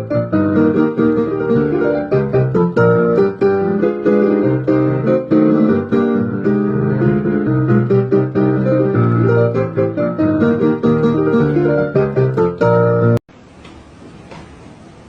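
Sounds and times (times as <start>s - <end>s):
piano music: 0.0s - 13.2s.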